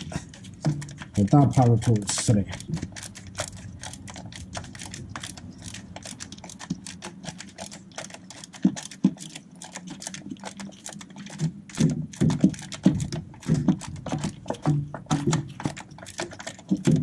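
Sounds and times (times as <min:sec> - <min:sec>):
low steady hum: 0:00.0 - 0:17.0
hand ratchet clicking: 0:00.6 - 0:17.0.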